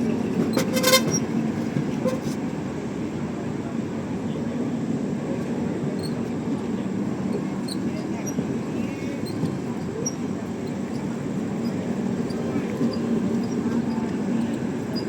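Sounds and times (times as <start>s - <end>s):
train coaches rumbling: 0.0s - 15.0s.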